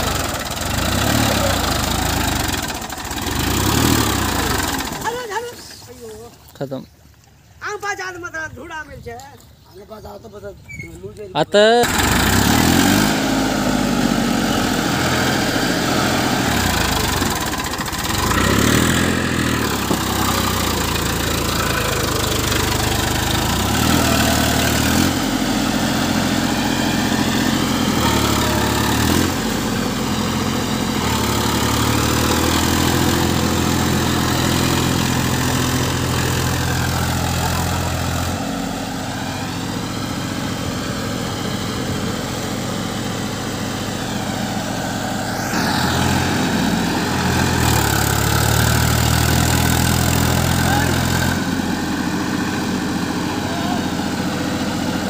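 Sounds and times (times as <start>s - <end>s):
tractor diesel engine under load: 0.0s - 6.8s, 11.3s - 55.0s.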